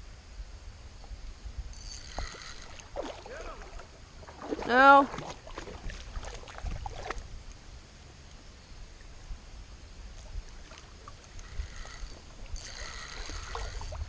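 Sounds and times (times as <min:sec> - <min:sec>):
wind rumbling on microphone: 0:00.0 - 0:14.0
creek running: 0:01.8 - 0:14.0.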